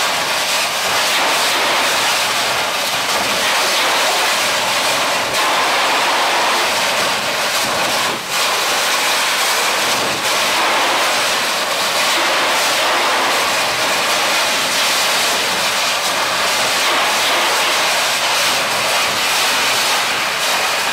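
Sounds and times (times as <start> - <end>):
high-pressure water jet blasting: 0.0 - 20.9.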